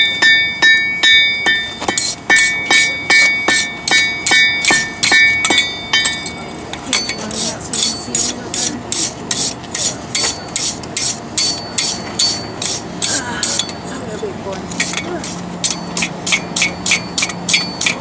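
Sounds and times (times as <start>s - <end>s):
ringing blows on steel: 0.0s - 8.4s, 10.1s - 13.9s, 15.6s - 18.0s.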